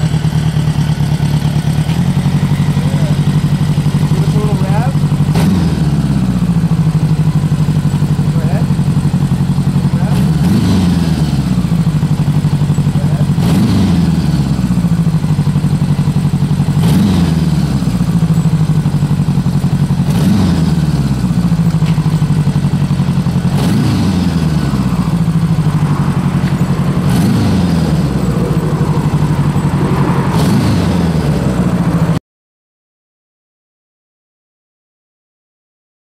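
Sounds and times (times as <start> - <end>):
motorcycle engine idling and revving: 0.0 - 32.2.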